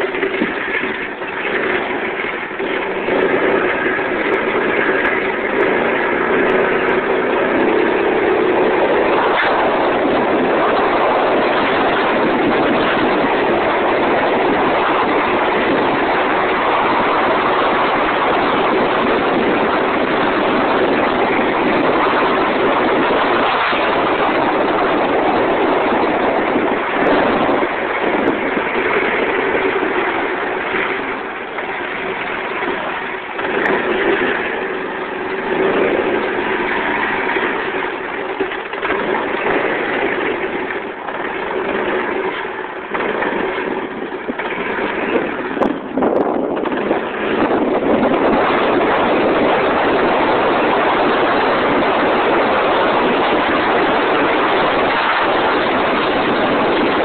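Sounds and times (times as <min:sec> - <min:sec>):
go-kart engine under throttle: 0:00.0 - 0:57.0.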